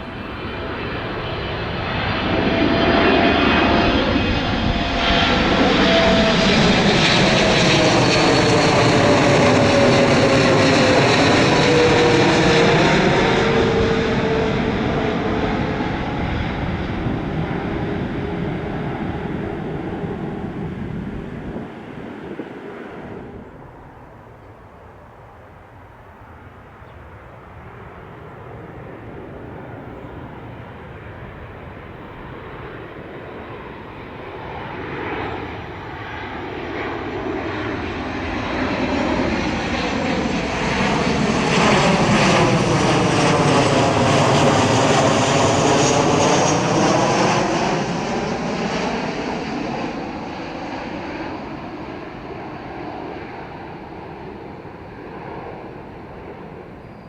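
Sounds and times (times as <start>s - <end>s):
jet airliner engine roar: 0.0s - 57.0s.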